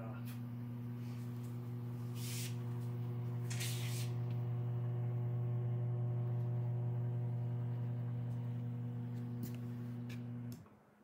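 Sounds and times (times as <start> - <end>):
electrical hum: 0.0 - 10.6.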